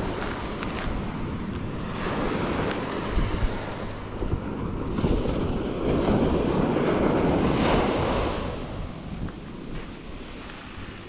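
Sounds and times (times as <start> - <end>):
small waves breaking on sand: 0.0 - 11.0
wind rumbling on microphone: 0.0 - 11.0.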